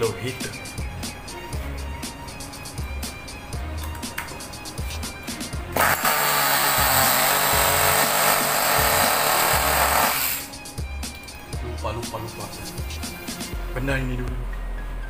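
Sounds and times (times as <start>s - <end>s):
music with a regular beat: 0.0s - 15.0s.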